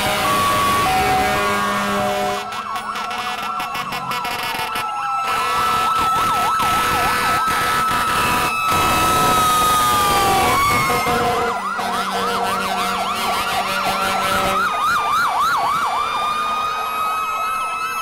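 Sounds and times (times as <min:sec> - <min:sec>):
fire truck sirens: 0:00.0 - 0:18.0.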